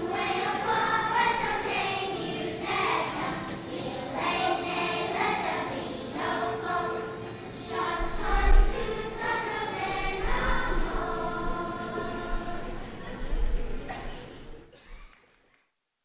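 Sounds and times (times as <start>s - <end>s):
children's choir singing: 0.0s - 14.8s.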